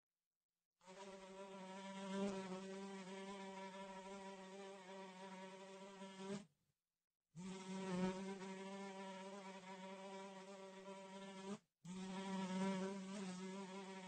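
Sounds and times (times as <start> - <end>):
housefly buzzing: 0.8 - 6.5, 7.4 - 14.0.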